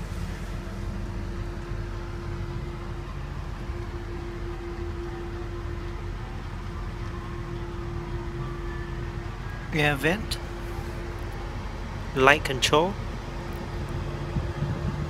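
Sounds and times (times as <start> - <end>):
car cabin rumble and hum: 0.0 - 15.0.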